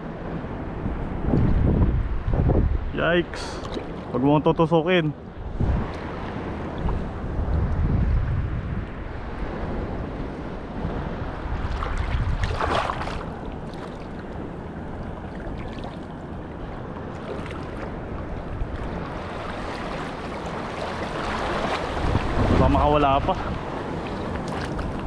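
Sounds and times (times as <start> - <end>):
wind buffeting microphone: 0.0 - 25.0
small waves washing: 3.1 - 7.7, 8.9 - 25.0.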